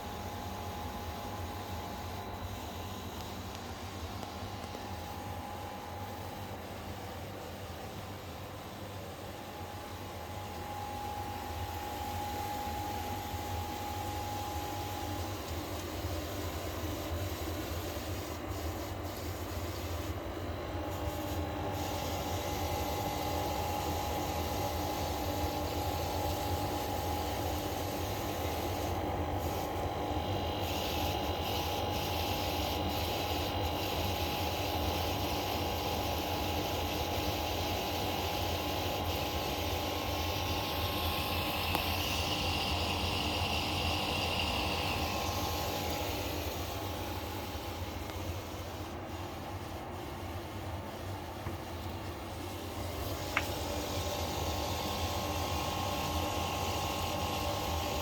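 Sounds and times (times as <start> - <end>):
air conditioner humming: 0.0 - 58.0.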